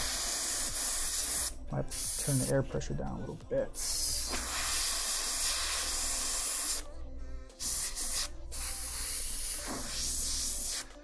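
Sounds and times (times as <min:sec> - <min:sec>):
airbrush spraying hiss: 0:00.0 - 0:02.6, 0:03.7 - 0:06.9, 0:07.6 - 0:11.0.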